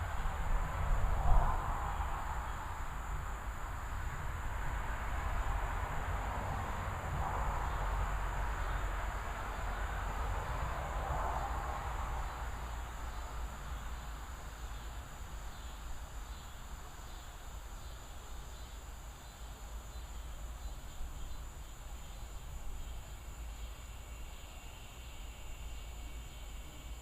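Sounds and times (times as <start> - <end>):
crickets and insects chirring: 0.0 - 27.0.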